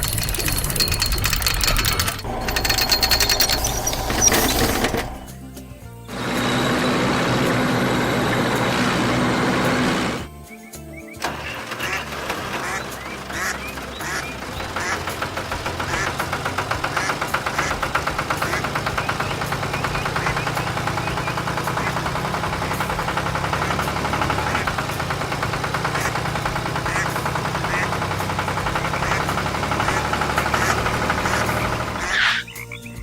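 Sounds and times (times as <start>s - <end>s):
engine chugging: 0.0s - 33.0s.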